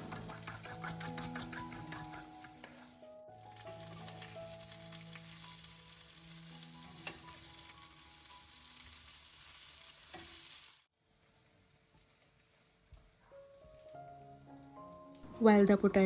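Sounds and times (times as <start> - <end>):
potatoes and onion sizzling in pan: 0.0 - 15.1.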